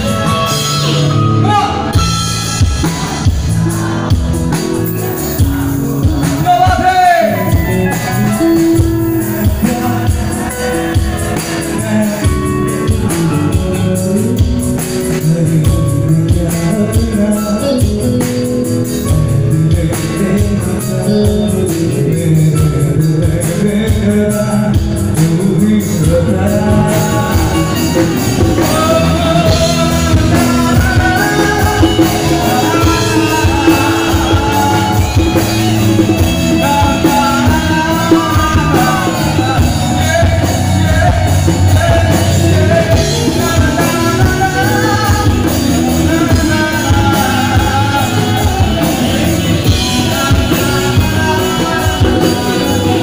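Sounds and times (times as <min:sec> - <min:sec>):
live band music: 0:00.0 - 0:53.0
man singing into microphone: 0:00.0 - 0:53.0.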